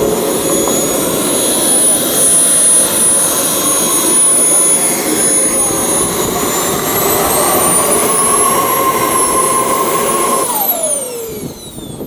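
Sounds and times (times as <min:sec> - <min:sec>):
jet turbine whining: 0:00.0 - 0:12.0.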